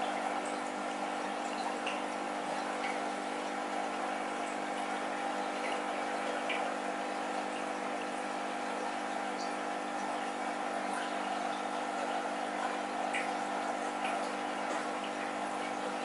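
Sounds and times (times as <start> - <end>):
sponge filter bubbling: 0.0 - 16.0.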